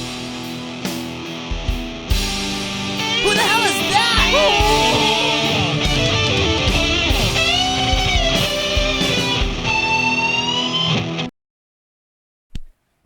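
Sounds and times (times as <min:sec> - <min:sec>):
rock music with electric guitar: 0:00.0 - 0:11.3.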